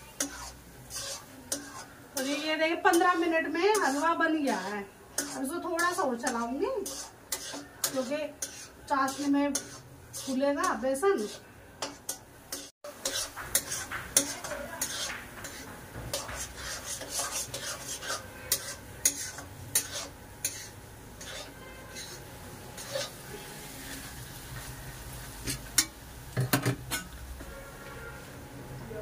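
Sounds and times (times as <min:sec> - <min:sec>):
spatula scraping a metal pan: 0:00.0 - 0:24.7.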